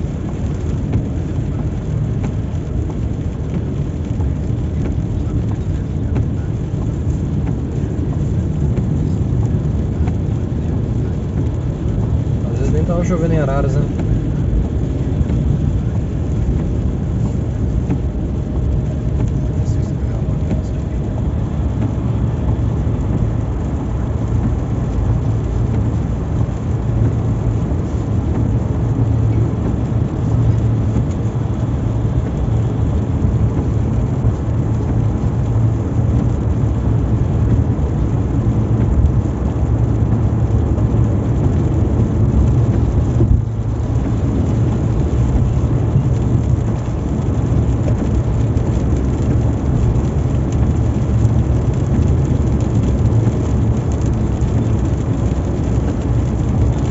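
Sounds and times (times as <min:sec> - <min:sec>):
car road and engine noise: 0:00.0 - 0:56.9
rain hitting car: 0:00.0 - 0:56.9.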